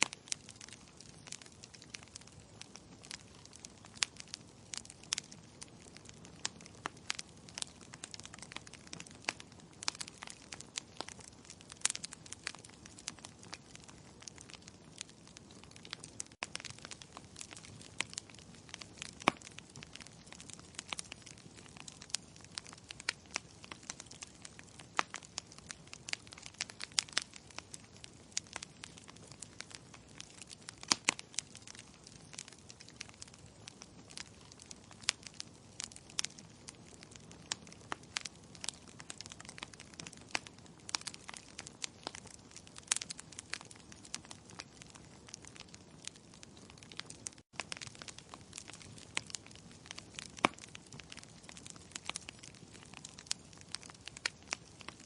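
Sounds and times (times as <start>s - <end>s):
logs crackling and popping: 0.0s - 55.0s
soft hiss of flames: 0.0s - 55.0s.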